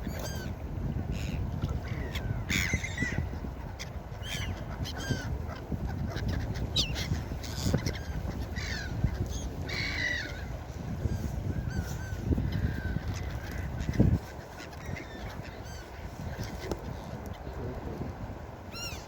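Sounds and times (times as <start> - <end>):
seagulls calling: 0.0 - 17.5, 18.7 - 19.0
surf and wind rumble: 0.0 - 19.0.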